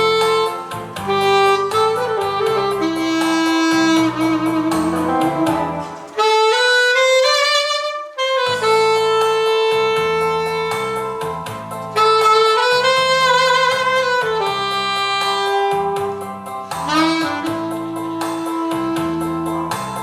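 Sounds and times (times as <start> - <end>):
rhythmic accompaniment: 0.0 - 20.0
saxophone slow melody: 0.0 - 20.0.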